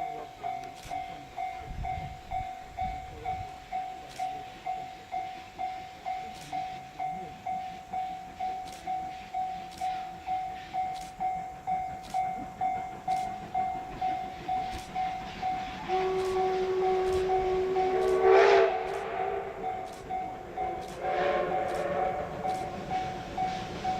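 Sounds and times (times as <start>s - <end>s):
level crossing warning bell: 0.0s - 23.9s.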